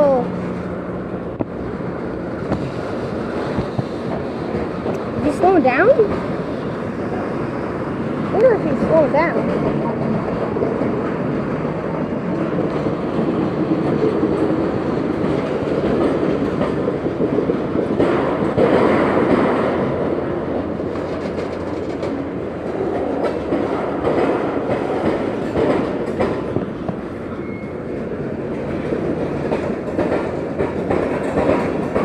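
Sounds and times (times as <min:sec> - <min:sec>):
freight train rumbling past: 0:00.0 - 0:32.0
wheels clacking over rail joints: 0:00.0 - 0:32.0.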